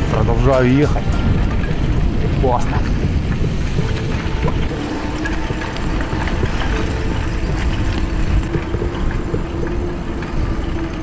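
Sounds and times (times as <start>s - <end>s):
bicycle tyres on dirt: 0.0s - 11.0s
bike clicks and rattles: 0.0s - 11.0s
wind on microphone: 0.0s - 11.0s.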